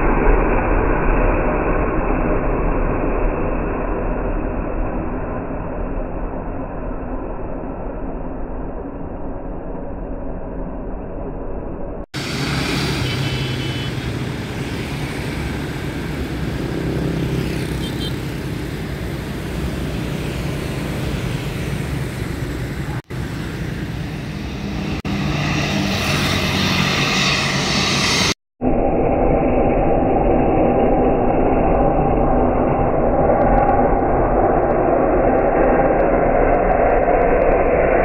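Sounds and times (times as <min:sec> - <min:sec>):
turboprop aircraft droning overhead: 0:00.0 - 0:38.0.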